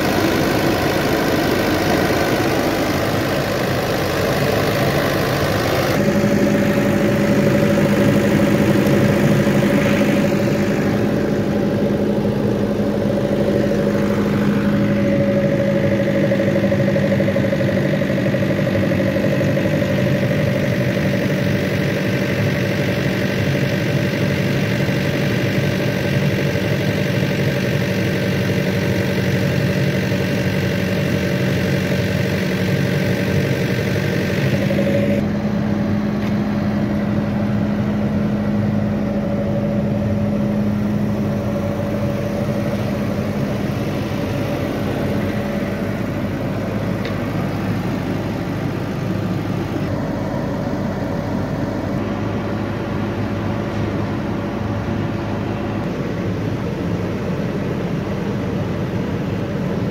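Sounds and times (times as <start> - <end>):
diesel generator humming: 0.0 - 59.9.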